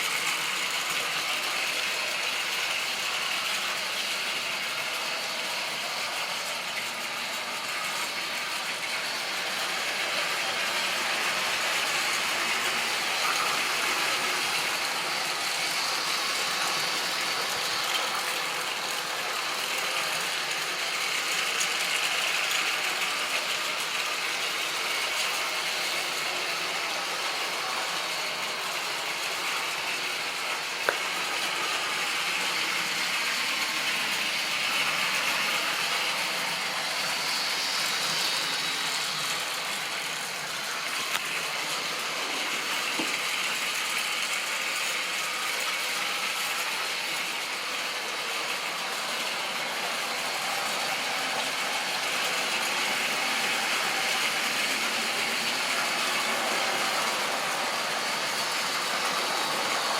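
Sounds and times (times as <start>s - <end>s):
model train rattling on track: 0.0s - 59.9s.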